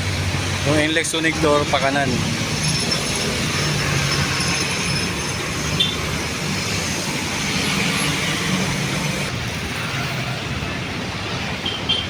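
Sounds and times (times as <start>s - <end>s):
street traffic: 0.0s - 12.0s
train passing with rumble: 0.0s - 12.0s.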